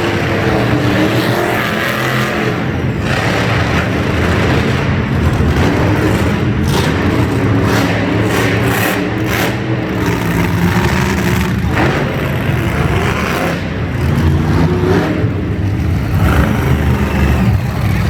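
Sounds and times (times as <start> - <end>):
monster truck engines revving: 0.0 - 18.0.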